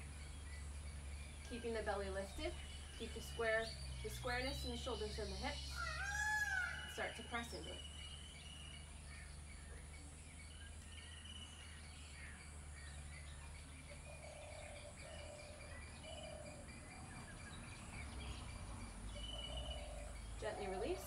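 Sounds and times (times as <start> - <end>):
faint bird chirps: 0.0 - 21.0
steady low hum: 0.0 - 21.0.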